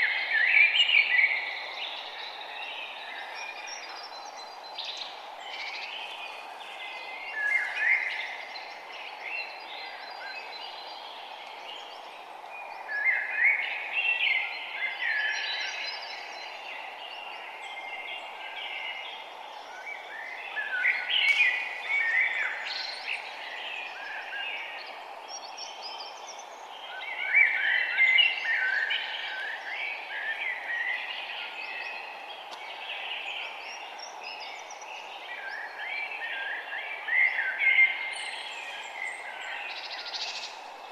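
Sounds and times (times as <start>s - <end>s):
songbirds chirping: 0.0s - 40.9s
steady background hiss: 0.0s - 40.9s.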